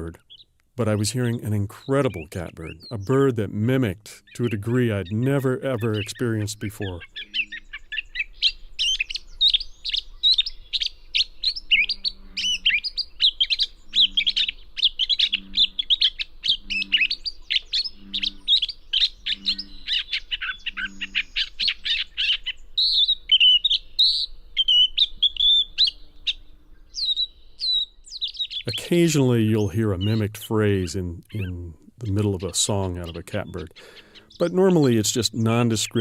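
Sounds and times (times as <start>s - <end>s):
bird singing varied notes: 0.0s - 36.0s.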